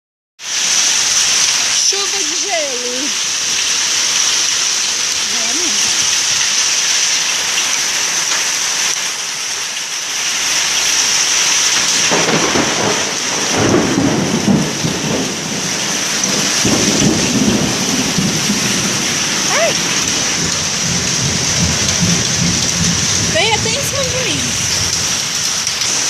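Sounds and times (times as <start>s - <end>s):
heavy rain and hail: 0.4s - 26.0s.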